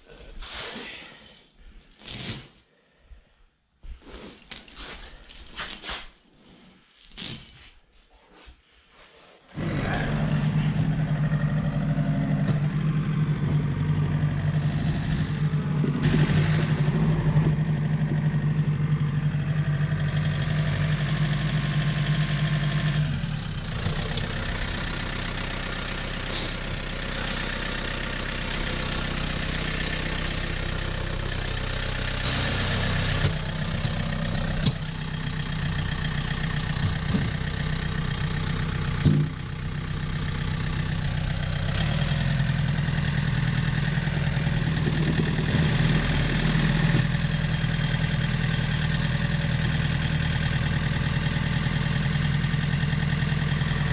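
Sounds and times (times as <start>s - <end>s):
tractor engine running: 9.6s - 53.9s.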